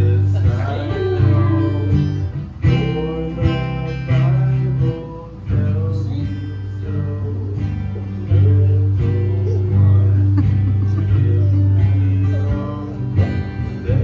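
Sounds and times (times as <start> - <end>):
steady bass: 0.0 - 14.0
strummed acoustic guitar: 0.0 - 14.0.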